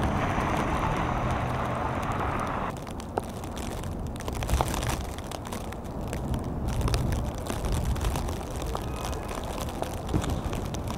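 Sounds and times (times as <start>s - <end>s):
sharp ticks and crackles: 0.0s - 10.9s
wind buffeting microphone: 0.0s - 10.9s.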